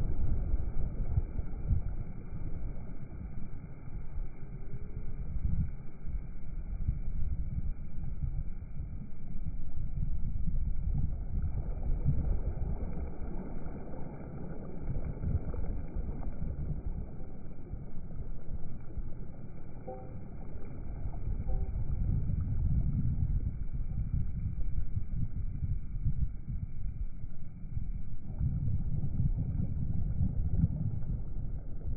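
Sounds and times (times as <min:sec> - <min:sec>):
wind rumbling on microphone: 0:00.0 - 0:31.9.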